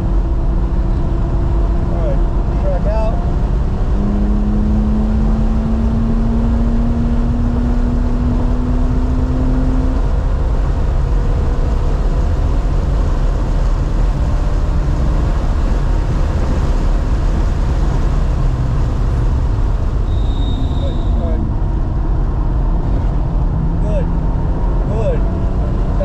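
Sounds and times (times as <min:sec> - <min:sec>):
road and wind rumble: 0:00.0 - 0:26.0.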